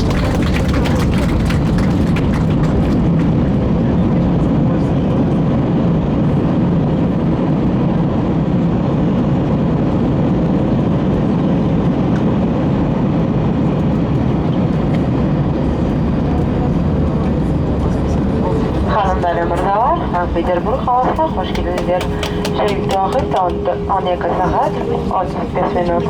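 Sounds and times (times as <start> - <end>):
wheels rumbling: 0.0 - 5.6, 10.2 - 26.0
jet engines humming: 0.0 - 26.0.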